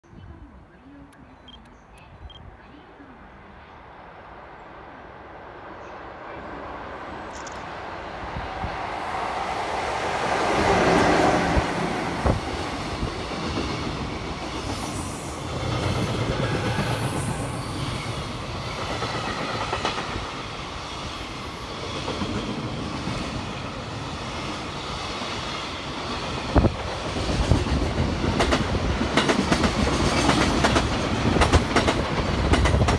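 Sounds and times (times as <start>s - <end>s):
electric locomotive passing: 2.2s - 32.9s.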